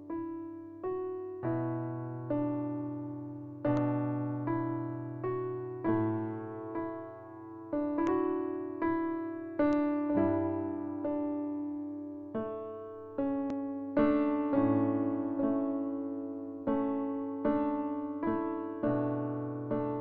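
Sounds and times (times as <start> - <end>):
slow electric piano chords: 0.0 - 20.0.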